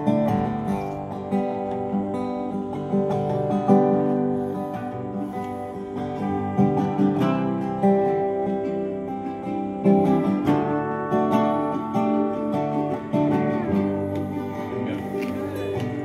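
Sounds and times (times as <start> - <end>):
resonator guitar strumming chords: 0.0 - 16.0
steel guitar sustained notes: 0.0 - 16.0.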